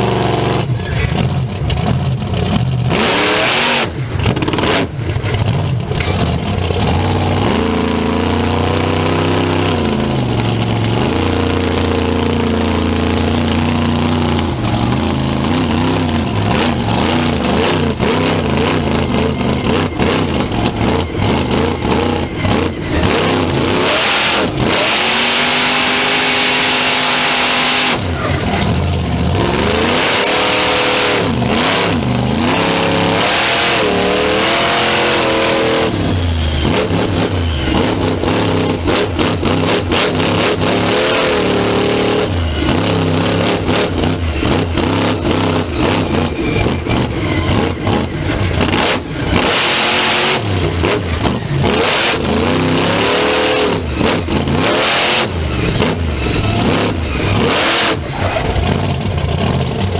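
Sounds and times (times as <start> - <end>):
vehicle engine revving hard: 0.0 - 59.9.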